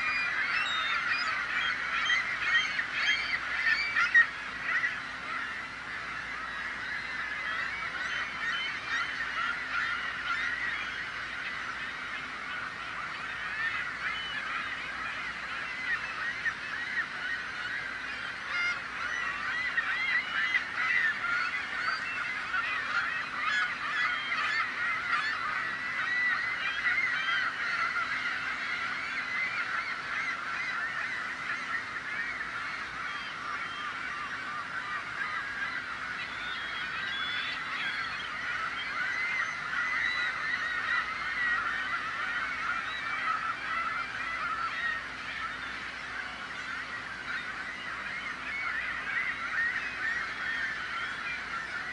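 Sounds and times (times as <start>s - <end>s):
flock of gulls calling: 0.0s - 51.9s.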